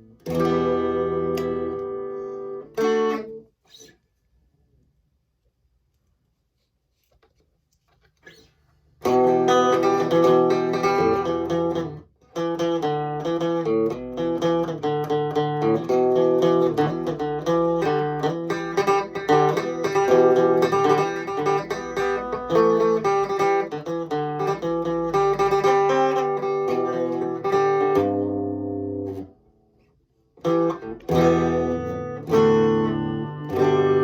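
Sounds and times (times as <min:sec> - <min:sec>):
electric guitar playing: 0:00.0 - 0:03.9, 0:08.3 - 0:29.5, 0:30.4 - 0:34.0.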